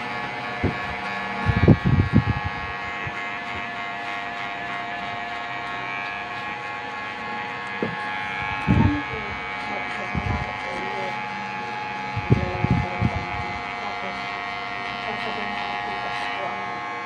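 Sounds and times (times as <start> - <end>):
electric hair clipper buzzing: 0.0 - 17.0.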